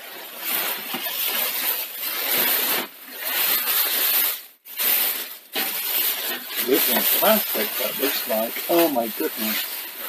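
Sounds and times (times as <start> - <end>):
plastic bag rustling: 0.0 - 10.0.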